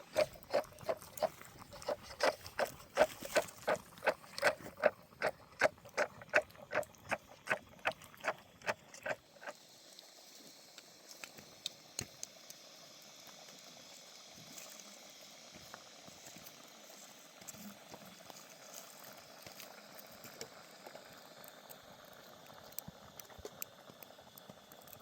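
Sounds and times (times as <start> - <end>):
food bubbling hiss: 0.0 - 25.0.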